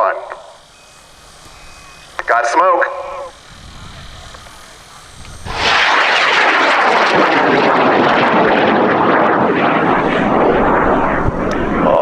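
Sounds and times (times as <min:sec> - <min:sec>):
rocket motor roaring: 0:00.0 - 0:12.0.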